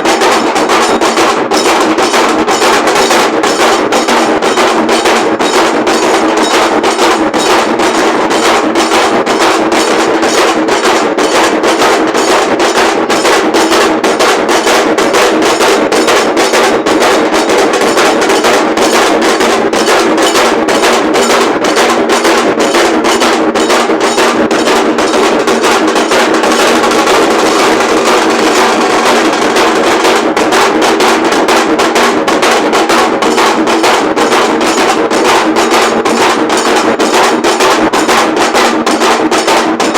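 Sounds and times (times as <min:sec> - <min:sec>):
drum band playing fast beat: 0:00.0 - 0:39.9.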